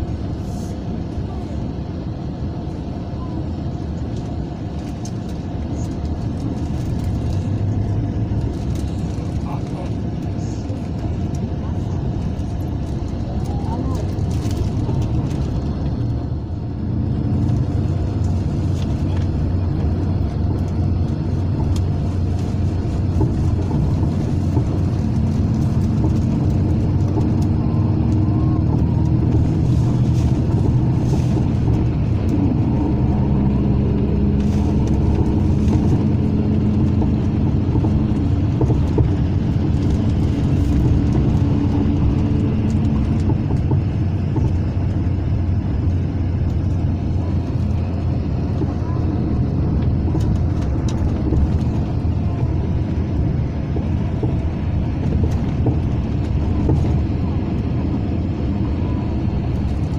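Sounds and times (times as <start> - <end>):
bus engine hum: 0.0 - 59.9
tyre and road rumble: 0.0 - 59.9.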